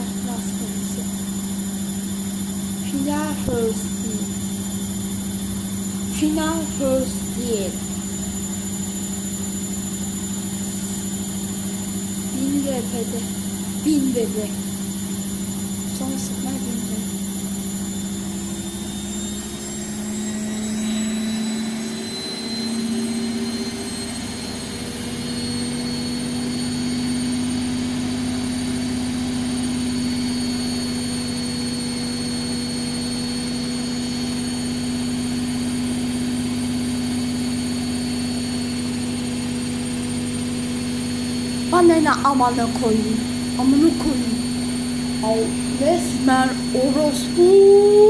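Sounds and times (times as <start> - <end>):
washing machine spinning: 0.0 - 48.0.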